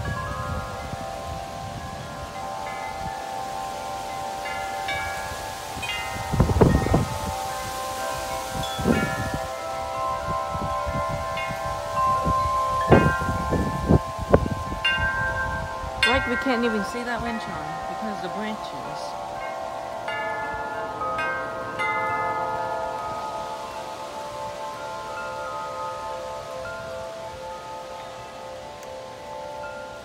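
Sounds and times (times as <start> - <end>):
metal wind chimes ringing: 0.0 - 30.0
wind buffeting microphone: 0.0 - 30.0.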